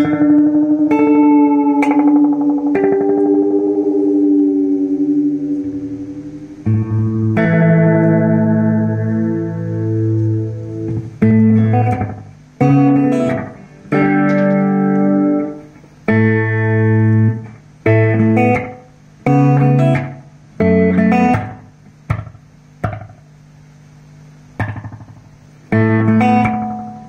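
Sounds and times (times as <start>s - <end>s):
guitar strumming chords with echo: 0.0s - 27.0s.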